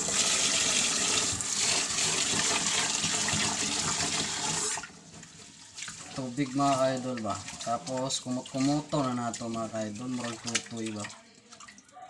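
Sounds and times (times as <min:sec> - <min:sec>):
tap water running into metal pot: 0:00.0 - 0:11.7.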